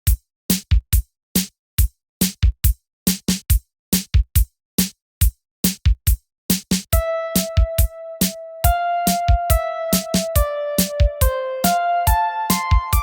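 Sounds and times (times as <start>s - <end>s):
drum machine beat: 0.0s - 13.0s.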